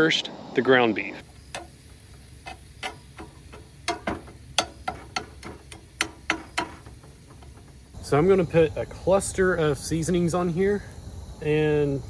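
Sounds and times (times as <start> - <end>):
fire crackling and popping: 1.2 - 12.0.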